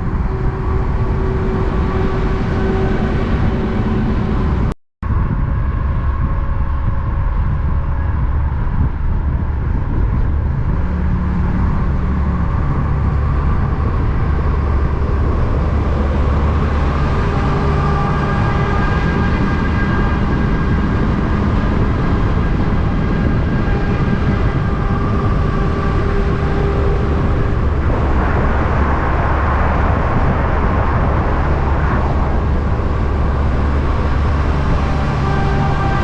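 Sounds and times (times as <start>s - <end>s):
rushing noise: 0.0s - 36.0s
truck diesel engine running: 0.0s - 36.0s.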